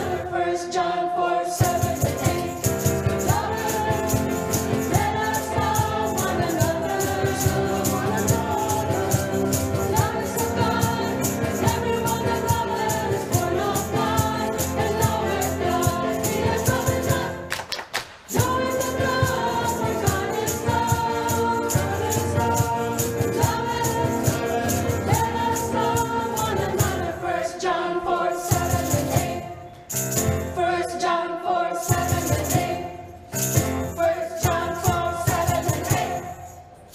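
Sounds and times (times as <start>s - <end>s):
church choir singing a hymn: 0.0s - 17.5s, 18.3s - 29.7s, 30.3s - 33.2s, 33.9s - 36.6s
rattle percussion steady beat: 1.6s - 17.6s, 18.2s - 27.4s, 28.4s - 30.6s, 31.8s - 36.9s.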